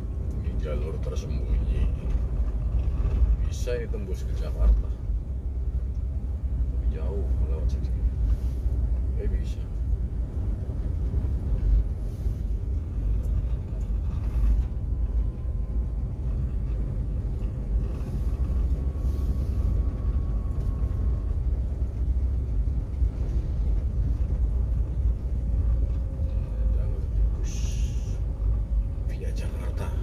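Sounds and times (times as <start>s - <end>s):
vehicle road and engine rumble: 0.0s - 30.0s.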